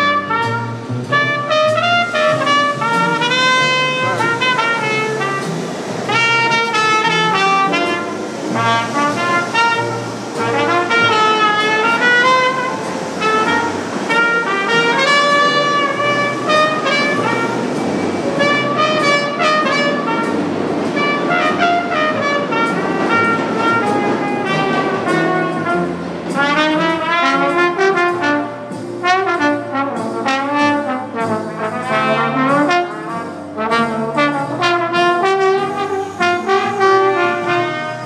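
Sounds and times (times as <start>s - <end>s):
jazz trumpet: 0.0s - 38.0s
subway train passing: 0.0s - 38.0s.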